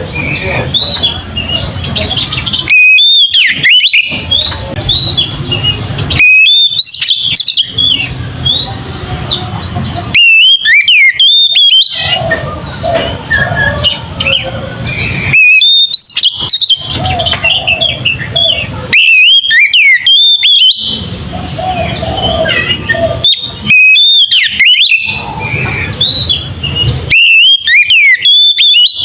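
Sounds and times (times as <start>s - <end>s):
bird singing whistled phrases: 0.0s - 29.0s.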